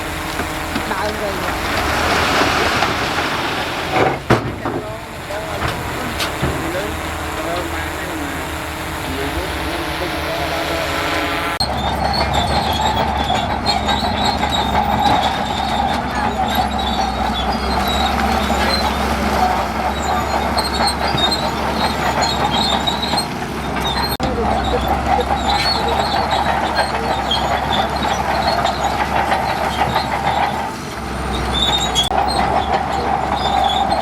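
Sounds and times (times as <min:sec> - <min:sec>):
heavy earth-moving machine running: 0:00.0 - 0:34.0
high metallic squeaks and clatter: 0:00.0 - 0:34.0.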